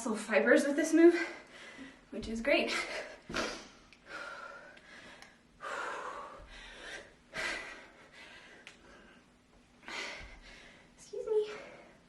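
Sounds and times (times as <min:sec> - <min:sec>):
woman breathing hard: 0:01.1 - 0:02.1, 0:02.8 - 0:12.0.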